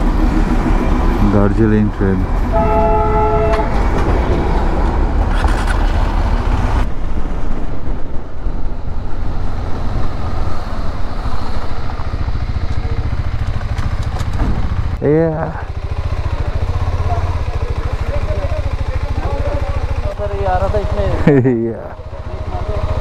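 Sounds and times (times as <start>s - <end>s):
motorcycle engine running: 0.0s - 6.8s, 9.2s - 23.0s
wind and road noise: 0.0s - 23.0s.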